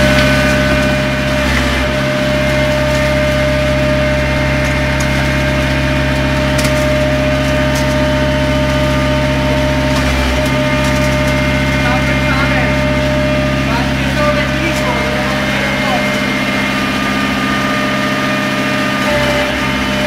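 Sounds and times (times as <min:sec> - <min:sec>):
boring machine humming and whining: 0:00.0 - 0:20.0.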